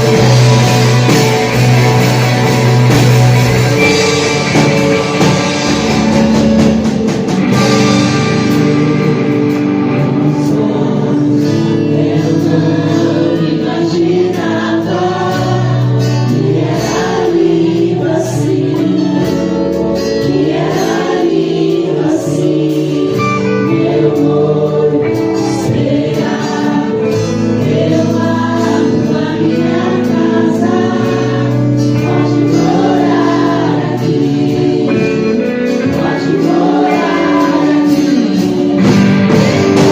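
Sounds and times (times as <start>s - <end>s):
group singing worship music: 0.0s - 39.9s
live band playing: 0.0s - 39.9s.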